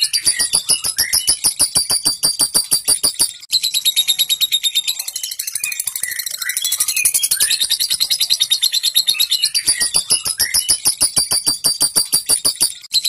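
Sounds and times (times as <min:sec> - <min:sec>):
lovebird chattering trill: 0:00.0 - 0:12.9.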